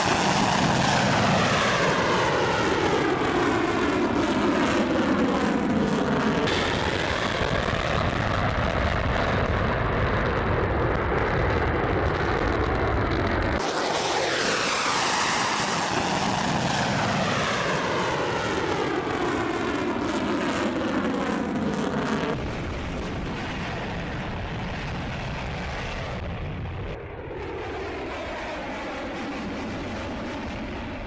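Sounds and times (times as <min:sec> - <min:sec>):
aircraft engine rumble: 0:00.0 - 0:31.0
aircraft passing by: 0:00.0 - 0:31.0.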